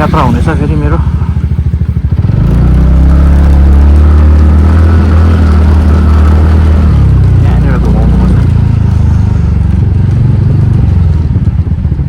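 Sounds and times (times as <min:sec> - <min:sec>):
scooter engine: 0:00.0 - 0:12.0.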